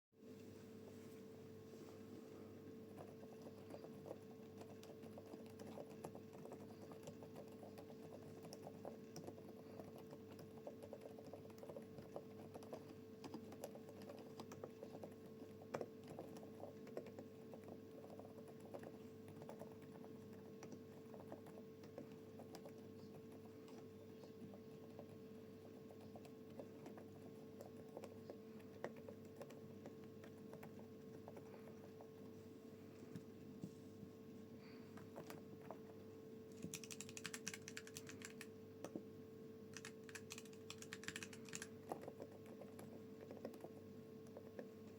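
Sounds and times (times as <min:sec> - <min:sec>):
faint steady hum: 0:00.2 - 0:44.9
soft mechanical keyboard typing: 0:02.9 - 0:32.2, 0:34.9 - 0:39.0, 0:39.7 - 0:44.9.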